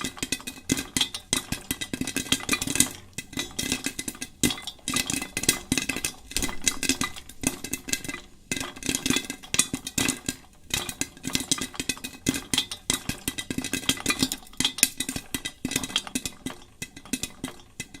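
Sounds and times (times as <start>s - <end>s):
popcorn popping: 0.0s - 18.0s.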